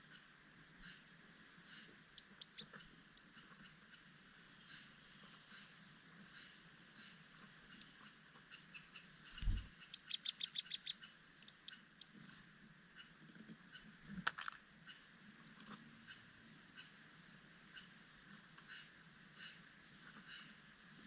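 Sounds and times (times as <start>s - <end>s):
small songbirds chirping: 0.0s - 14.1s, 14.7s - 20.6s.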